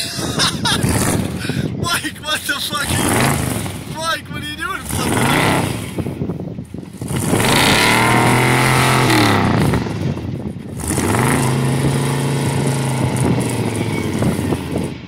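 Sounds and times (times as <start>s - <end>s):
truck engine revving hard: 0.0s - 1.9s, 2.7s - 15.0s.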